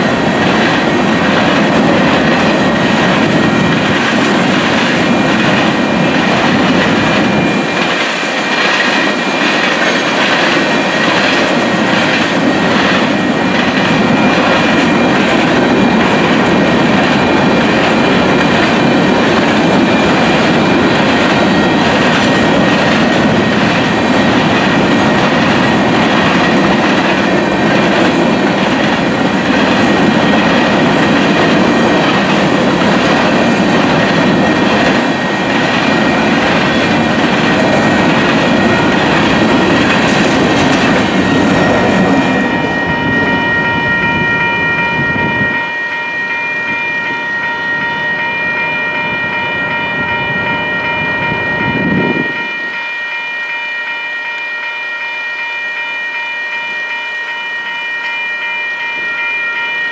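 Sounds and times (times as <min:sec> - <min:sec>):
train cars rolling: 0:00.0 - 0:53.2
crossing bells ringing: 0:00.0 - 0:59.9.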